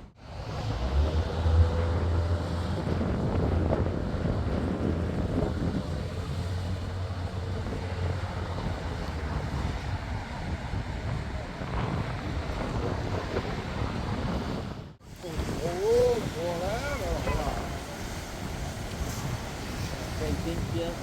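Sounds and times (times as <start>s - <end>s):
ocean water washing: 0.0s - 21.0s
wind buffeting microphone: 0.0s - 21.0s.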